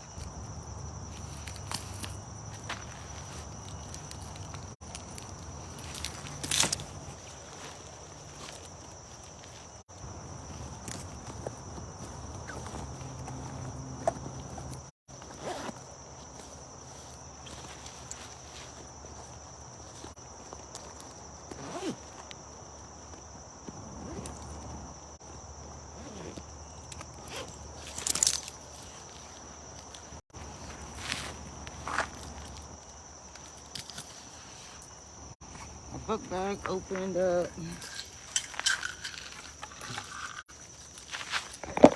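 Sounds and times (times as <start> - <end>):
footsteps on a woodland trail: 0.0 - 41.9.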